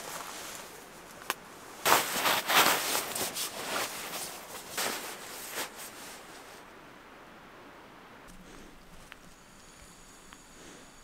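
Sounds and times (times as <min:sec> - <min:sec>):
rustling and shuffling: 0:00.0 - 0:06.7, 0:08.3 - 0:11.0.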